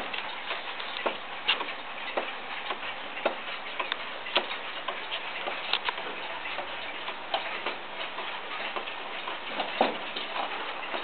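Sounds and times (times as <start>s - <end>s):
wall clock ticking: 0.0s - 11.0s.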